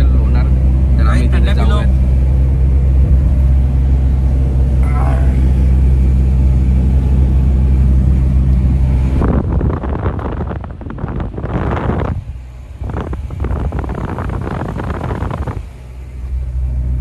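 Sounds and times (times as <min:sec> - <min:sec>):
road noise: 0:00.0 - 0:17.0
vehicle engine drone: 0:00.0 - 0:17.0
gusty wind noise: 0:01.8 - 0:04.7, 0:05.5 - 0:16.4.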